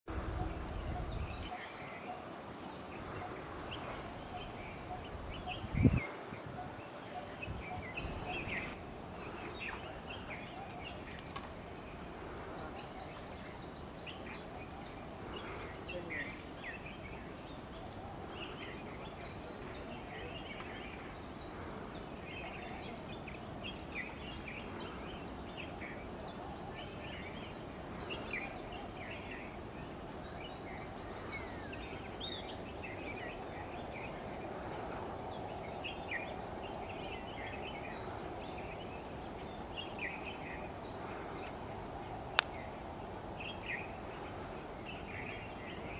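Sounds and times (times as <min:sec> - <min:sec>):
small birds chirping and trilling: 0:00.1 - 0:45.9.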